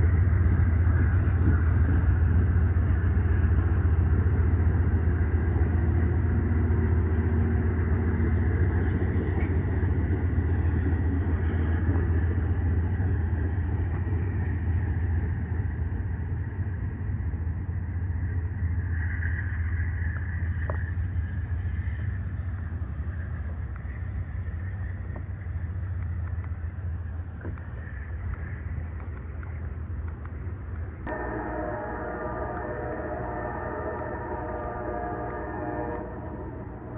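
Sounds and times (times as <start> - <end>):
train rumbling past: 0.0 - 36.9.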